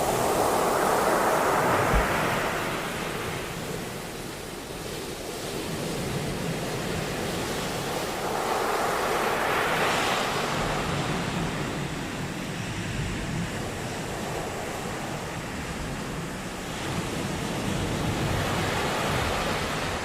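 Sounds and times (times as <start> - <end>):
sea waves breaking on a beach: 0.0 - 20.0.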